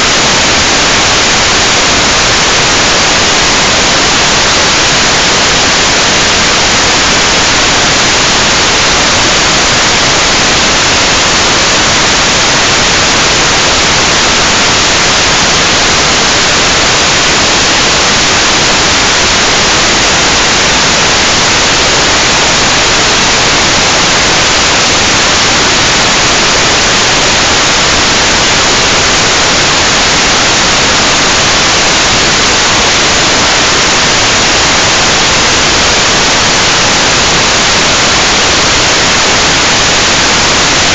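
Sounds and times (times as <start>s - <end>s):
loud static hiss: 0.0s - 40.9s.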